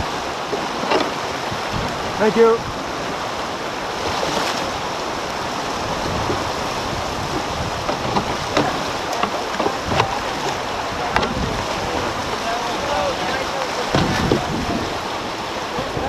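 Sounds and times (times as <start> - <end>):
whitewater rushing: 0.0 - 16.0.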